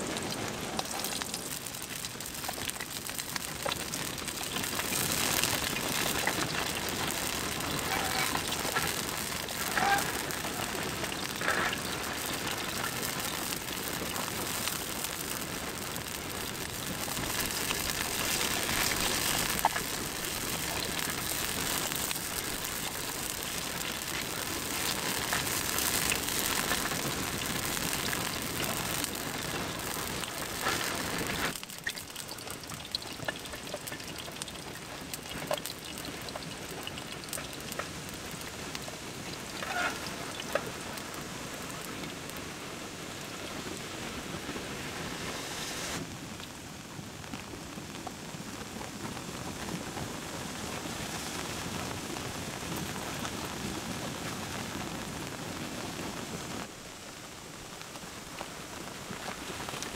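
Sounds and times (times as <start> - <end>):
light rain patter: 0.0 - 59.9
rain hissing: 0.0 - 59.9.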